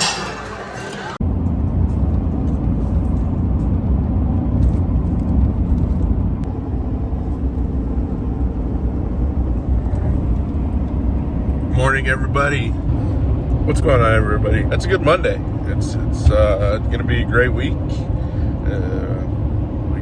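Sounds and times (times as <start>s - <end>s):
road noise: 0.0s - 20.0s
vehicle engine rumble: 0.0s - 20.0s.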